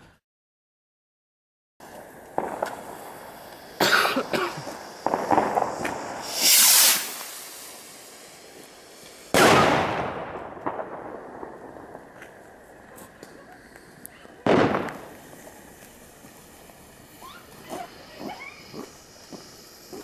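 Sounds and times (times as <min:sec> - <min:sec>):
firecracker cracks: 0:01.8 - 0:20.0
firework hiss: 0:01.8 - 0:20.0
firecracker bangs: 0:02.3 - 0:12.3, 0:13.2 - 0:20.0.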